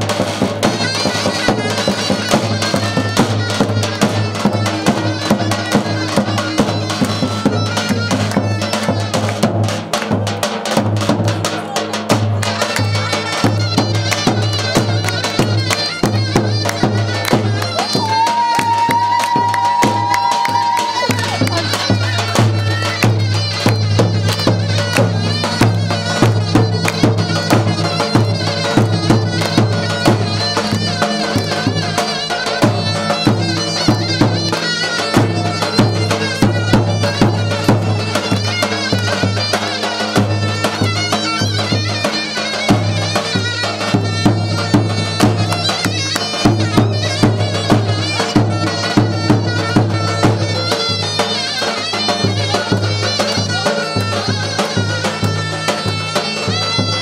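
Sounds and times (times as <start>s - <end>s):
shrill reed-pipe melody: 0.0s - 57.0s.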